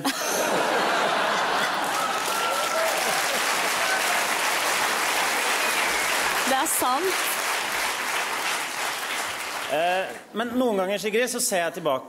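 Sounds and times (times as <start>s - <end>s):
audience applauding: 0.3s - 10.2s.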